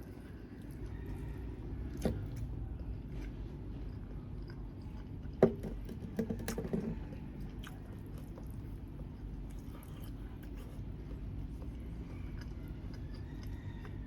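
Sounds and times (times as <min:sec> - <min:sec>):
soft chewing: 0:00.0 - 0:14.0.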